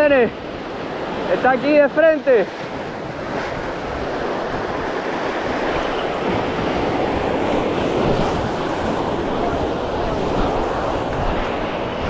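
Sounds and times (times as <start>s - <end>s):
surf breaking over rocks: 0.0s - 12.0s.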